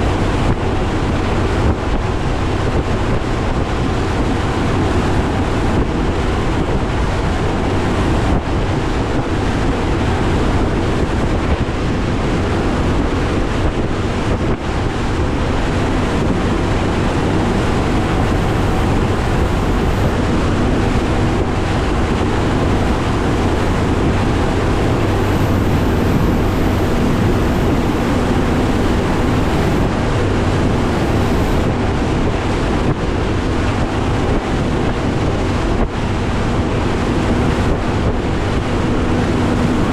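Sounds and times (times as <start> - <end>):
outboard motor droning: 0.0 - 39.9
water rushing against hull: 0.0 - 39.9
wind buffeting microphone: 0.0 - 39.9.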